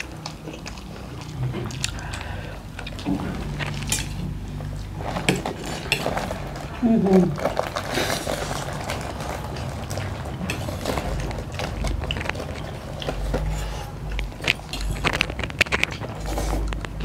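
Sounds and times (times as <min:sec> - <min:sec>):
noodles slurped and chewed: 0:00.0 - 0:17.0.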